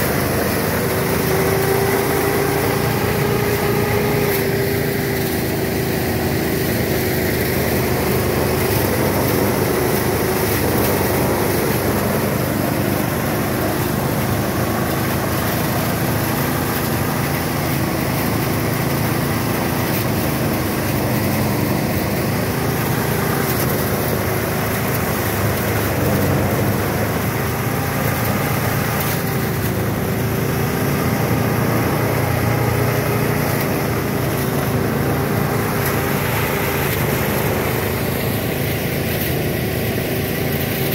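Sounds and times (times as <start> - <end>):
small engine driving thresher: 0.0 - 40.9.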